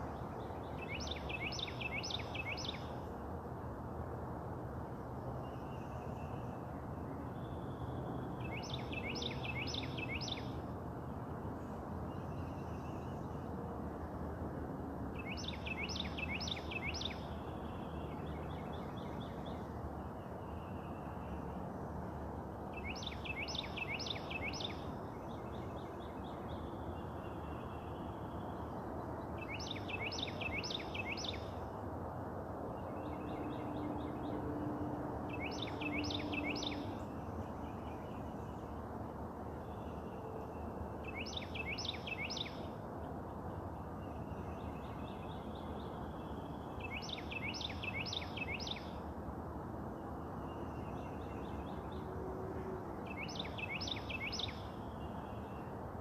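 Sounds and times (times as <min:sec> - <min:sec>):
faint bird singing: 0:00.0 - 0:03.4, 0:05.0 - 0:14.0, 0:15.1 - 0:31.8, 0:32.6 - 0:49.1, 0:49.9 - 0:56.0
low outdoor ambient hum: 0:00.0 - 0:56.0.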